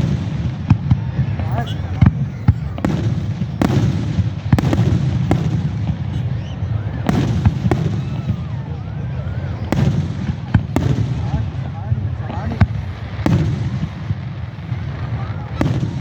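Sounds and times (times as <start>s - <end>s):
fireworks sharp bangs: 0.0s - 16.0s
low rumble and crackle of fireworks: 0.0s - 16.0s.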